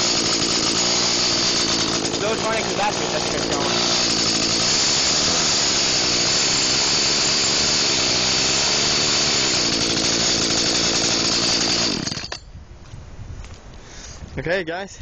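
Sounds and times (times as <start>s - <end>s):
chainsaw engine running: 0.0s - 12.4s.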